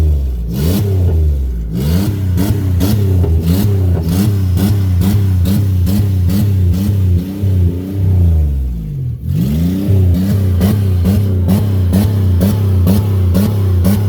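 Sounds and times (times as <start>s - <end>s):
car engine bouncing on rev limiter: 0.0s - 14.0s.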